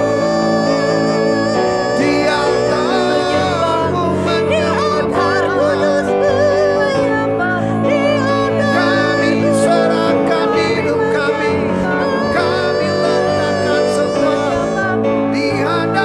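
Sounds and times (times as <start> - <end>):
electronic keyboard chords: 0.0 - 16.0
people singing together: 0.0 - 16.0.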